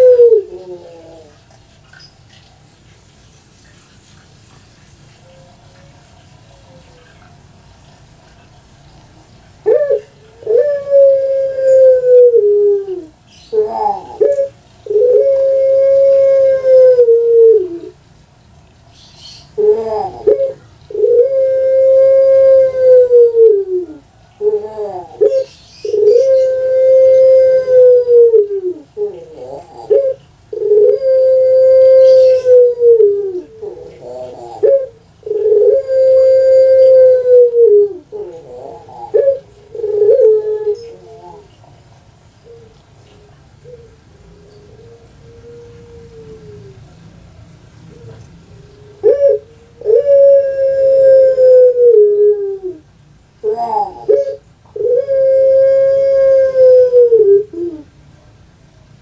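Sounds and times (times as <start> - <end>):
dove cooing: 0.0 - 1.6, 9.6 - 18.0, 19.0 - 41.8, 42.4 - 46.9, 47.9 - 57.9.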